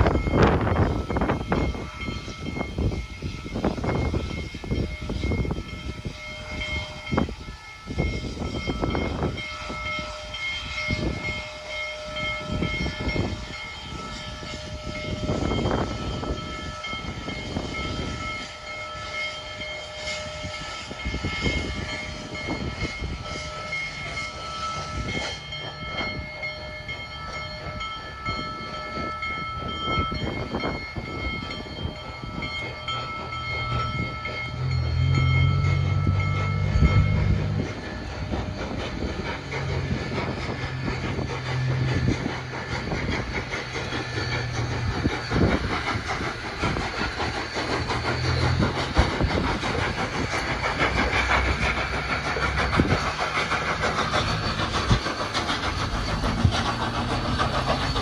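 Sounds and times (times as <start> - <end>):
steam locomotive exhaust chuffing: 0.0 - 58.0.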